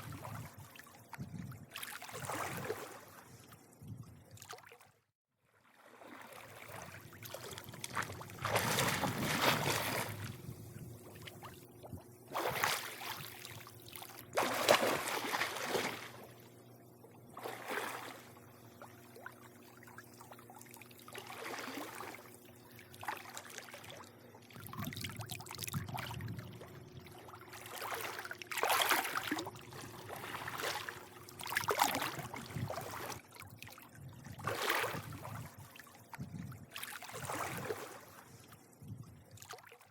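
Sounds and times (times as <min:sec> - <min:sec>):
pool water lapping and splashing: 0:00.0 - 0:39.9
faint low hum: 0:06.4 - 0:39.5.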